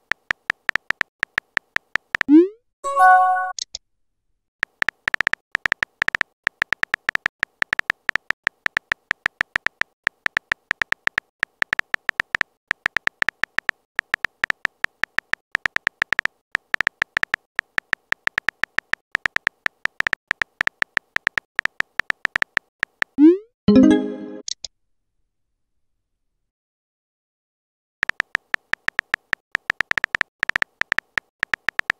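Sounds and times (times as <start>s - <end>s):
keyboard typing blips: 0.1s - 3.7s, 4.6s - 24.6s, 28.0s - 31.9s.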